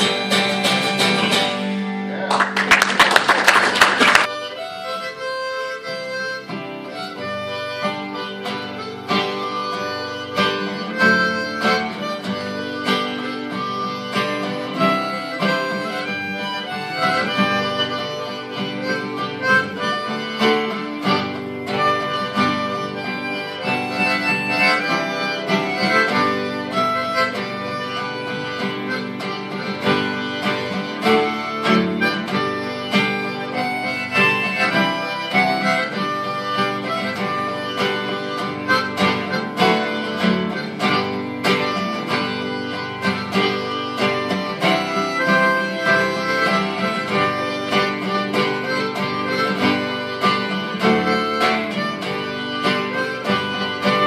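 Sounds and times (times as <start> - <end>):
acoustic guitar: 0.0 - 54.0
harmonica melody: 0.0 - 54.0.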